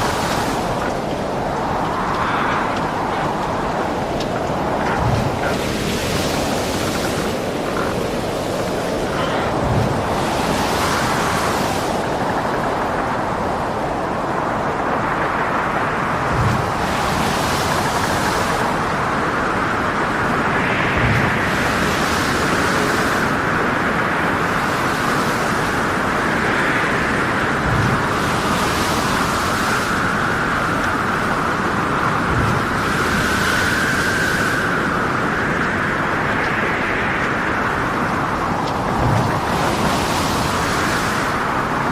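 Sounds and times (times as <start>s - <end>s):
heavy waves: 0.0s - 41.9s
whistling wind: 0.0s - 41.9s
wind roaring: 0.0s - 41.9s.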